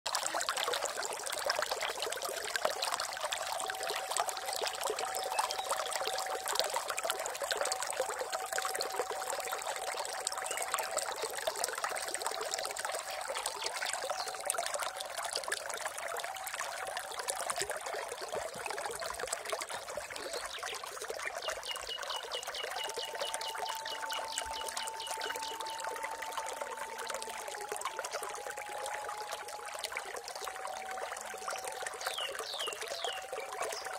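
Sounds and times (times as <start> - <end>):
water trickling and splashing: 0.1 - 33.9.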